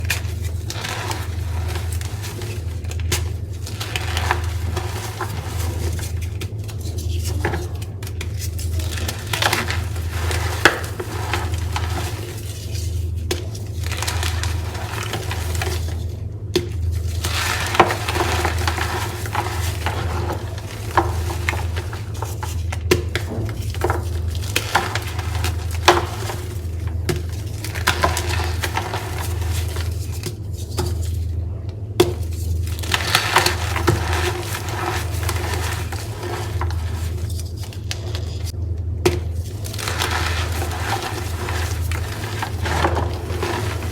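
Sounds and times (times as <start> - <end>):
chalk crunching and crackling: 0.0 - 31.4, 32.1 - 38.6, 39.2 - 43.9.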